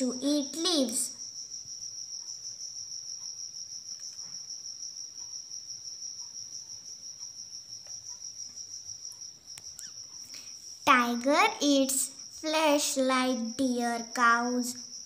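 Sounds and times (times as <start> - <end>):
insect trilling: 0.0 - 15.0.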